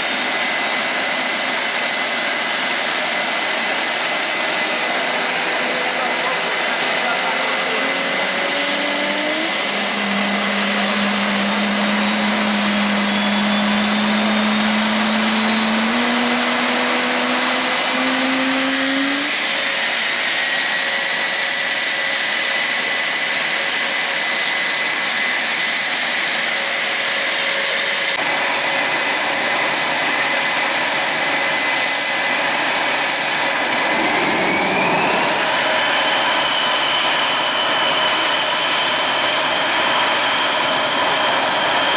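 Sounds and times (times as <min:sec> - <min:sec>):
engine spooling up whine: 0:00.0 - 0:41.9
jet engines running: 0:00.0 - 0:41.9.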